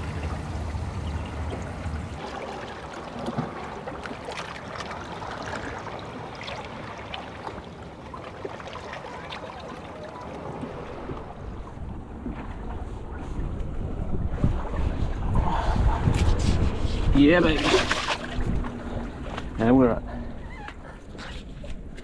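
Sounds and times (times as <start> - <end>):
seawater lapping in rocks: 0.0 - 14.8, 17.3 - 22.0.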